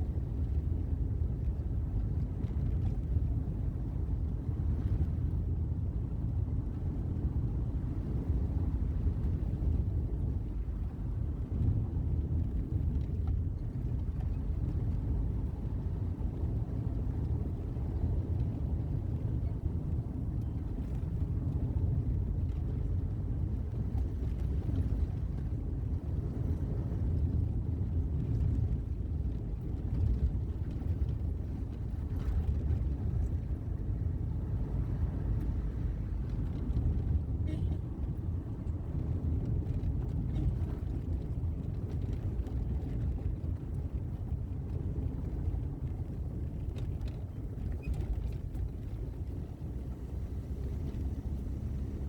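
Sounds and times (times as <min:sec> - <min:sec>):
road noise inside moving car: 0:00.0 - 0:52.0.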